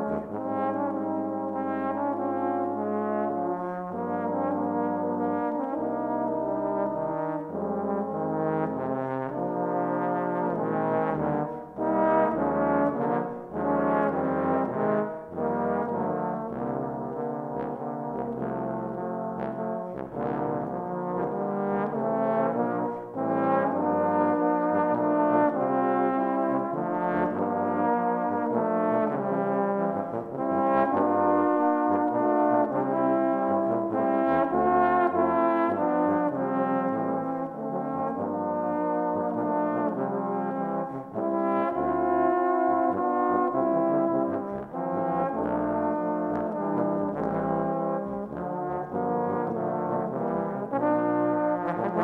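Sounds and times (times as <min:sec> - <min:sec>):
trombones playing together: 0:00.0 - 0:52.0.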